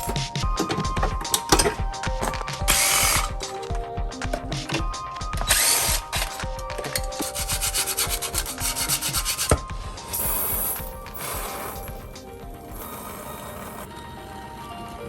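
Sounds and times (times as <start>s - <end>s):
background music with melody: 0.0s - 15.0s.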